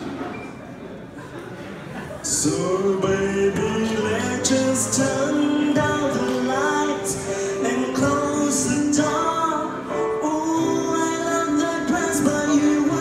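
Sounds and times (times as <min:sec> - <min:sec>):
man singing pop ballad: 0:02.2 - 0:13.0
piano chords: 0:02.2 - 0:13.0.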